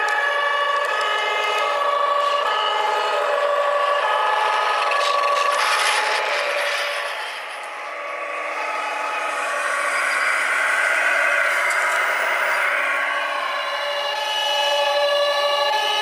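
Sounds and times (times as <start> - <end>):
two-tone fire engine sirens: 0.0 - 16.0.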